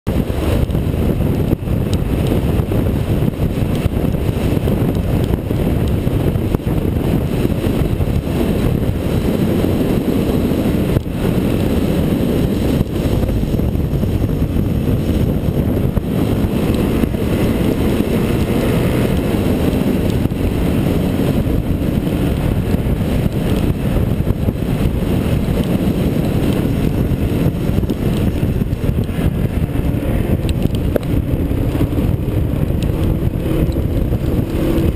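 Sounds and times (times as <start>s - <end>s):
motorcycle engine running: 0.1s - 34.9s
wind buffeting microphone: 0.1s - 34.9s.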